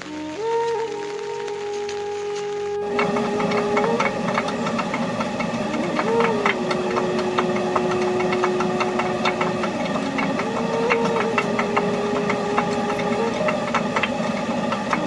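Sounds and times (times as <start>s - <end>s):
engine running: 1.6s - 15.0s.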